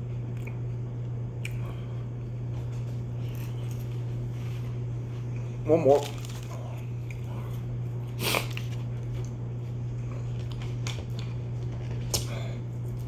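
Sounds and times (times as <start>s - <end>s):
chewing mouth noises: 0.1s - 4.4s, 5.1s - 12.3s.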